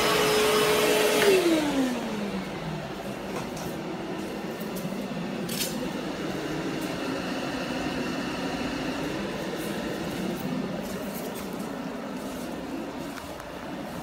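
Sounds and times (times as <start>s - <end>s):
dust collector humming: 0.0s - 14.0s.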